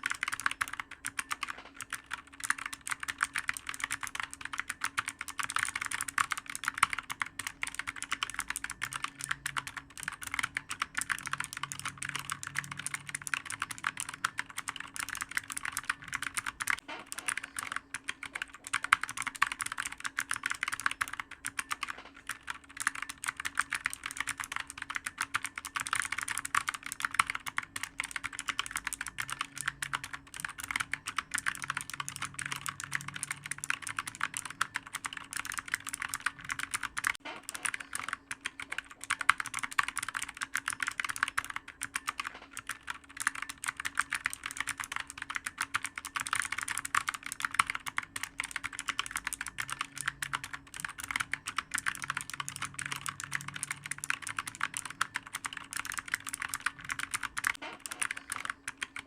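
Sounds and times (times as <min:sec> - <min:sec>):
faint steady hum: 0:00.0 - 0:59.0
fast typing on clicky keyboard: 0:00.0 - 0:59.0.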